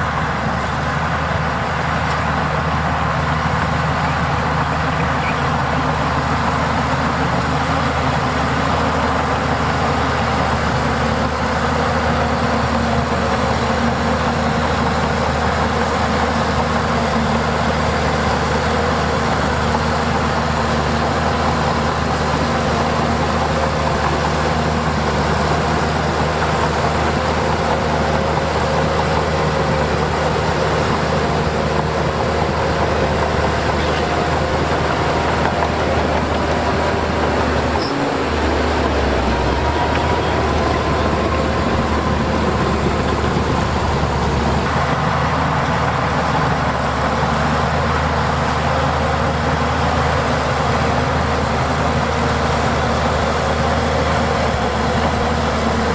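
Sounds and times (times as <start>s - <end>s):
heavy diesel engine droning: 0.0s - 55.9s.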